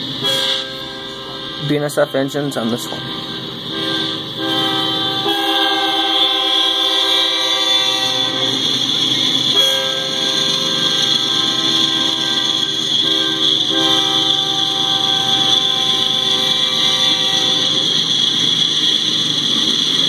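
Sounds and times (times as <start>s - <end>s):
train horn blasts: 0.0s - 20.0s.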